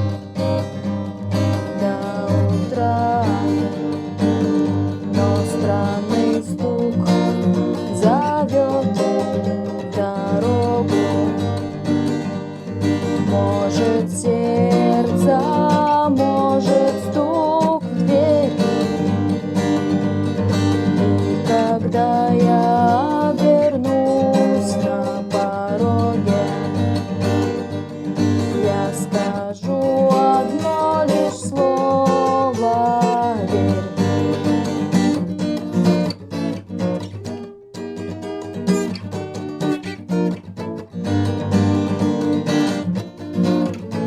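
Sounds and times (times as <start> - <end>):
acoustic guitar strumming: 0.0 - 44.0
bending guitar melody: 0.0 - 44.0.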